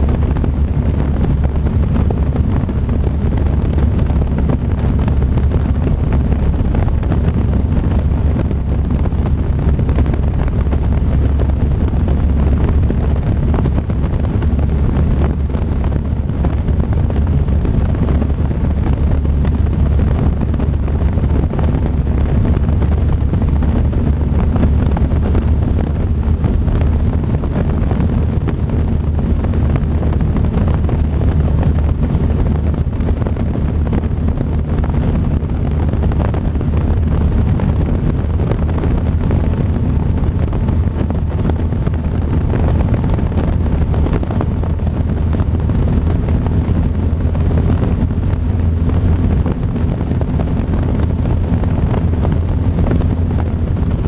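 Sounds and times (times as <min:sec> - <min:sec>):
propeller engine droning: 0:00.0 - 0:54.0
wind rushing over microphone: 0:00.0 - 0:54.0.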